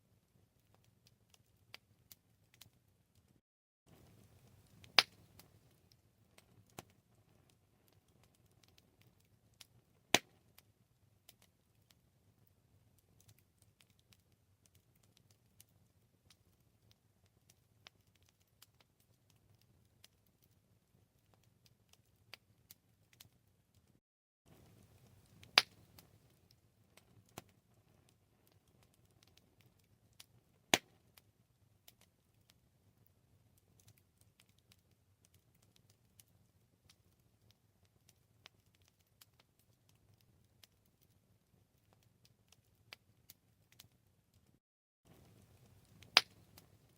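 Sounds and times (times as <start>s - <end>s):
campfire crackling: 0.1s - 23.9s, 24.5s - 46.9s.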